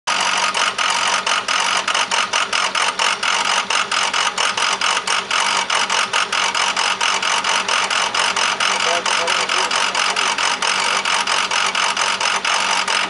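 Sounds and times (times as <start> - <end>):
diesel engine clattering idle: 0.1 - 13.0.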